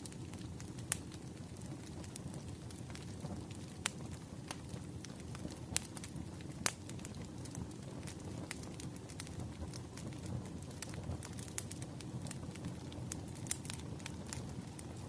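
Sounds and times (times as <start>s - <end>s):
low rumble of burning logs: 0.0s - 15.0s
wood fire crackling: 0.0s - 15.0s.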